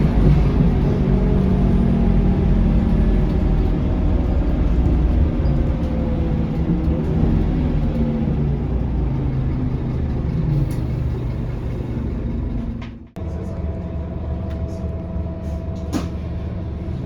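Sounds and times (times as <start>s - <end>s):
bus diesel engine running: 0.0s - 17.0s
road rumble: 0.0s - 17.0s.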